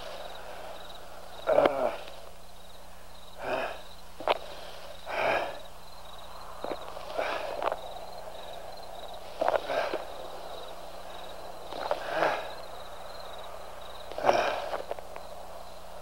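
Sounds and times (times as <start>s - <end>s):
person breathing heavily: 0.0s - 15.1s.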